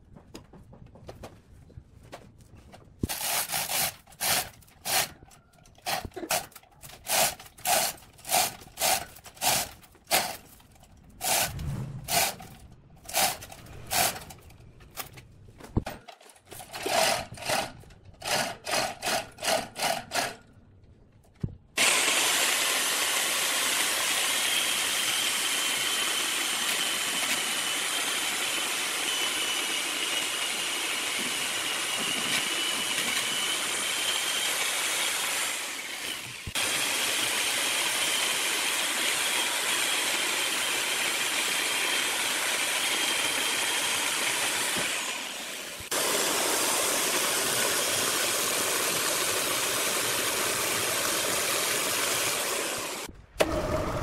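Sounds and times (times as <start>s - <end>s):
electric chainsaw whining: 3.1s - 5.2s, 5.8s - 15.1s, 16.6s - 20.4s, 21.8s - 54.0s.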